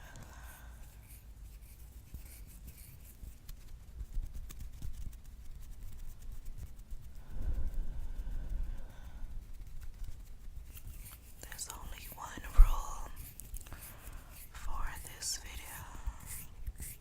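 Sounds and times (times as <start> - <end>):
fingernails scratching on palm: 0.8 - 17.0.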